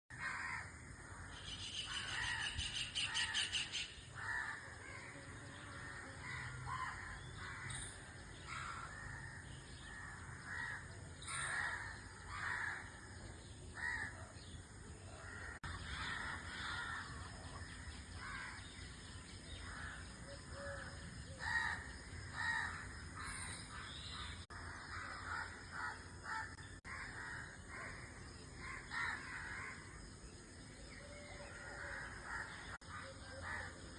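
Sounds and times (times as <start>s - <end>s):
harsh cawing bird calls: 0.1s - 30.1s, 30.9s - 33.8s.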